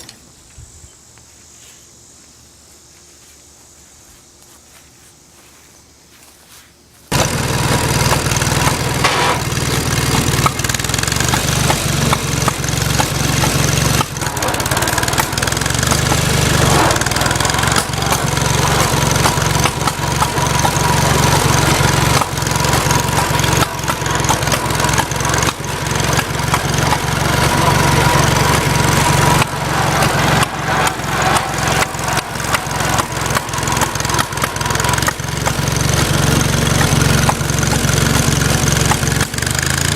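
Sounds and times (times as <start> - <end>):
engine popping: 7.1 - 39.9
tractor engine running: 7.1 - 39.9.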